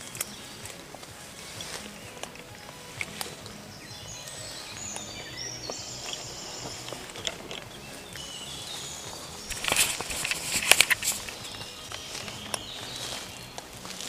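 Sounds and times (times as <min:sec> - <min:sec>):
birds singing: 0:00.0 - 0:14.0
clicks and rustles of leaves: 0:00.0 - 0:14.0.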